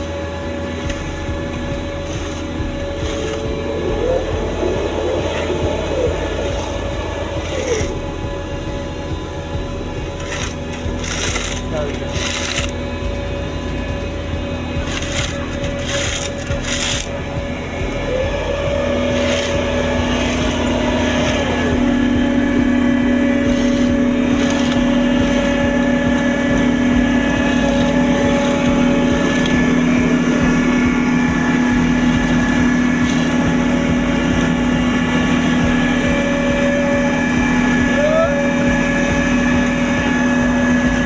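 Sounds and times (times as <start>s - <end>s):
heavy machinery engine droning: 0.0s - 41.0s
short scraping strikes: 0.0s - 41.0s.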